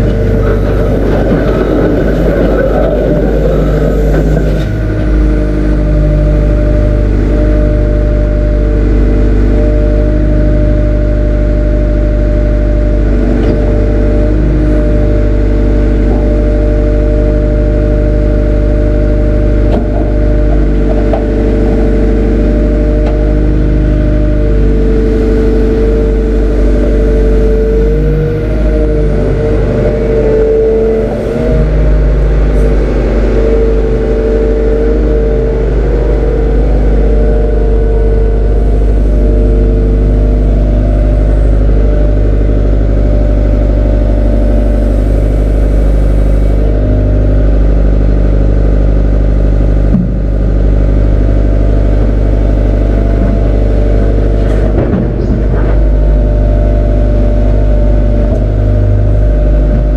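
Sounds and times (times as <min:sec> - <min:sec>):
diesel excavator droning: 0:00.0 - 0:59.9.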